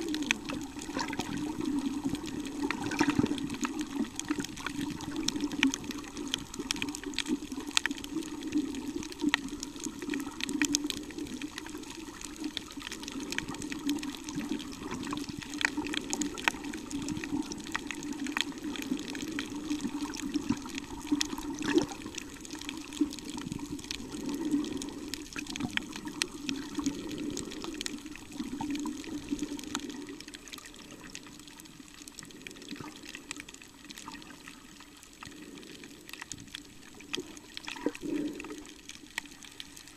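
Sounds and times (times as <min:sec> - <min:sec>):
sharp crackling clicks: 0:00.0 - 0:34.4
muffled underwater water wash: 0:00.0 - 0:39.9.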